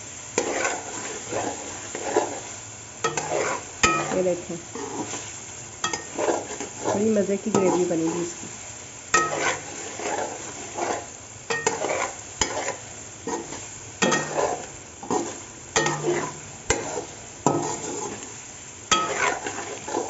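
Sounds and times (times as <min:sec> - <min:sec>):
sauce sizzling: 0:00.0 - 0:20.0
spoon scraping metal pan: 0:00.4 - 0:08.3, 0:09.2 - 0:18.3, 0:18.9 - 0:20.0.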